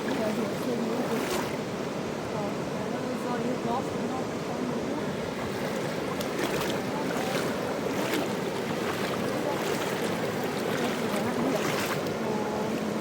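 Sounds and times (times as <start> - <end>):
river rushing: 0.0 - 13.0
water splashes: 0.0 - 13.0.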